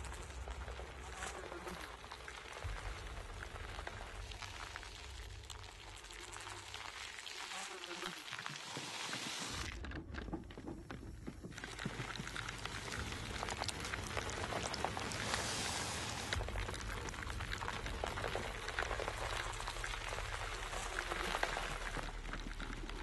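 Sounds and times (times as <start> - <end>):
low hum: 0.0 - 6.7, 9.6 - 23.0
dense crackling patter: 0.0 - 8.6, 9.3 - 23.0.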